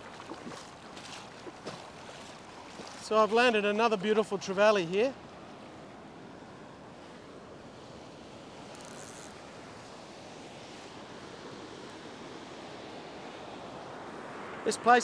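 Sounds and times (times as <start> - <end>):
surf washing over beach: 0.0 - 15.0.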